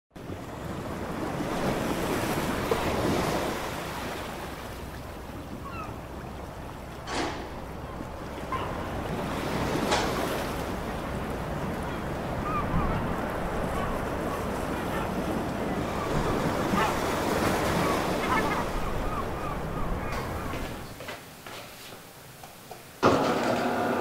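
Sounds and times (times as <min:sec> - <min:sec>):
sea waves washing: 0:00.2 - 0:21.0.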